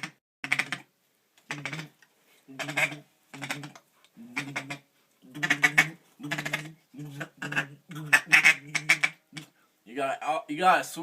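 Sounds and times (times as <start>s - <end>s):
duck caller chattering: 0.0s - 0.9s, 1.5s - 9.6s.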